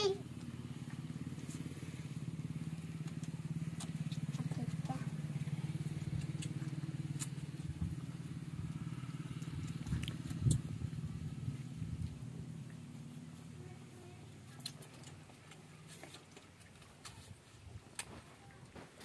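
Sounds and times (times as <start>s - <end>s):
small engine humming: 0.0s - 17.4s.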